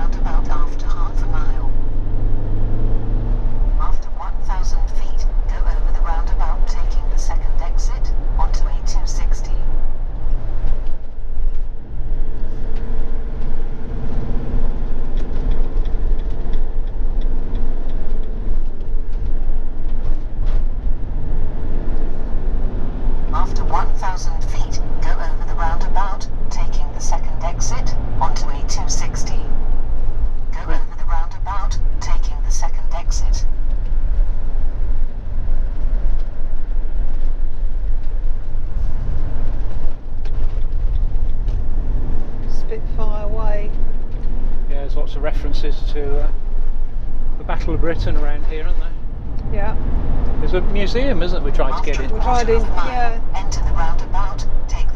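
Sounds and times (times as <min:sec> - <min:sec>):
vehicle engine and tyre rumble: 0:00.0 - 0:54.9.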